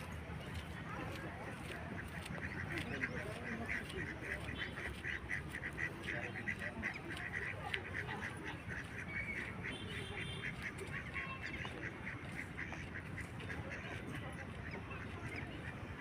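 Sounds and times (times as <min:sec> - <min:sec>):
waterbirds calling: 0:00.0 - 0:16.0.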